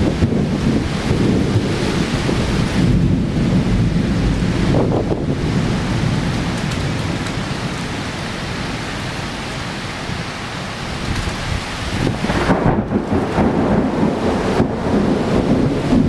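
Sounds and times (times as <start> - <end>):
gusty low rumble: 0.0 - 16.0
heavy rain pouring: 0.0 - 16.0.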